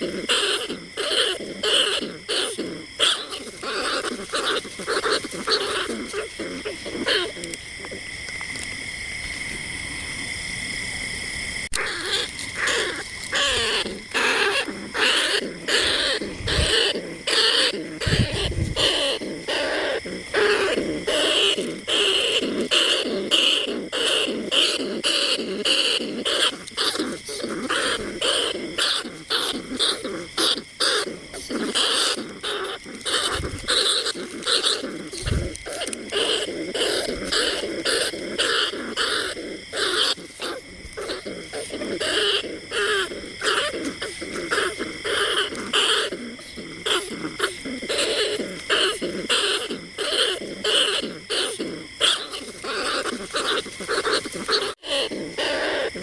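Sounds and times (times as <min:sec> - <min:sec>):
rat squeaks and chatters: 0:00.0 - 0:08.0, 0:11.7 - 0:56.0.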